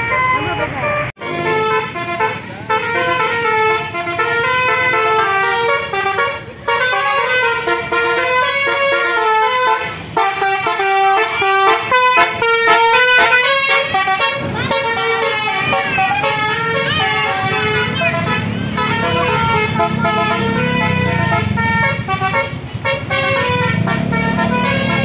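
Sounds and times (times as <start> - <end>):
bus horn playing a melody: 0.0 - 25.0.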